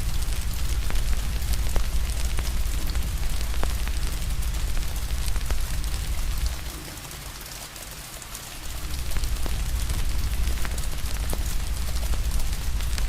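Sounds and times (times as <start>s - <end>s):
low rumble: 0.0s - 6.7s, 8.6s - 13.0s
fire crackling: 0.0s - 7.0s, 8.6s - 13.0s
steady rain hissing: 0.0s - 13.0s.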